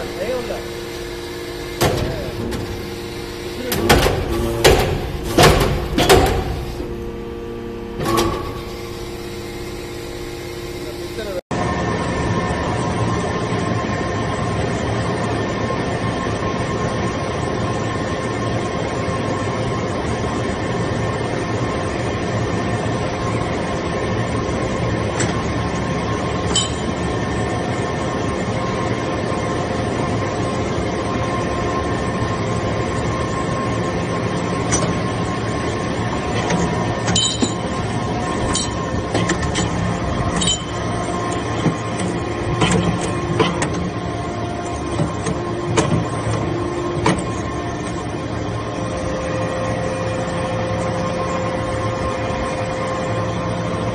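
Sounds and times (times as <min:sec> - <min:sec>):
hydraulic press machine hum: 0:00.0 - 0:53.9.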